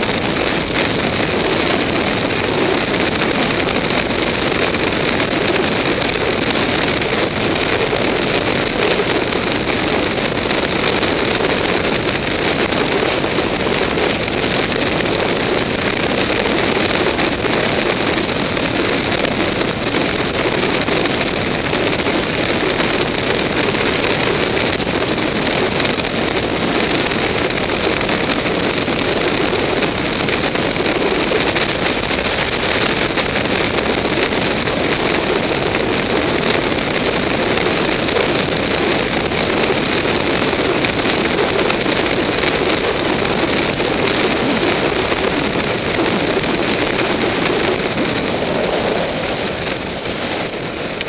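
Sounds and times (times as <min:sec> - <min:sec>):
motorcycle road noise: 0:00.0 - 0:51.0
wind rushing over microphone: 0:00.0 - 0:51.0.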